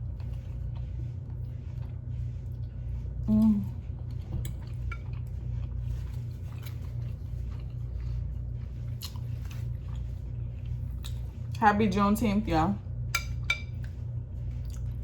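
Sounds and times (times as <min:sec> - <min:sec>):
chewing: 0:00.0 - 0:11.6, 0:13.7 - 0:15.0.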